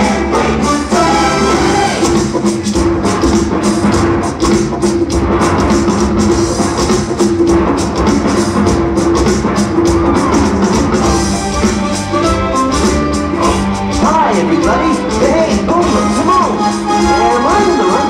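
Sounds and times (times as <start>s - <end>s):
loud music with steady beat: 0.0s - 18.0s.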